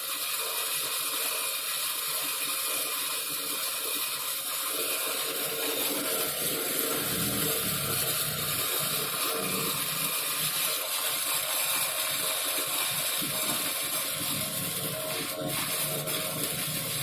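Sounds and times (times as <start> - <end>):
welding arc crackling and sizzling: 0.4 - 17.0.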